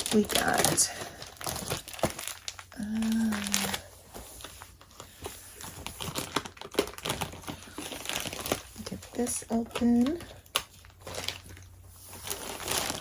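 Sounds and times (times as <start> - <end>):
packaging clicks and rustling: 0.0 - 13.0.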